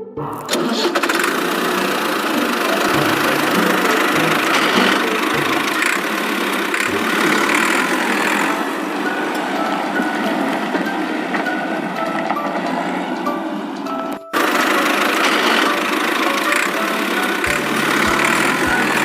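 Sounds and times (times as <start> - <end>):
engine running: 0.3 - 19.0.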